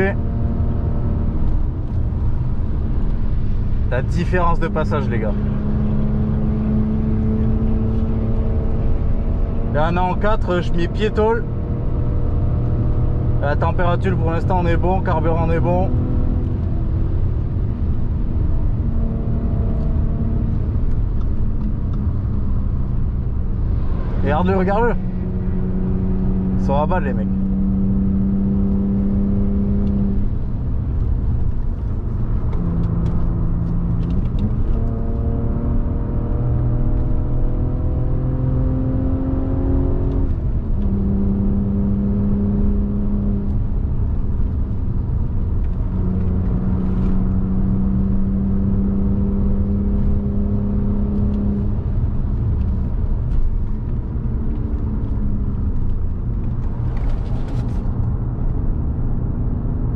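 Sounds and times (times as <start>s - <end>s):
car engine under load: 0.0s - 59.9s
road and tyre rumble: 0.0s - 59.9s.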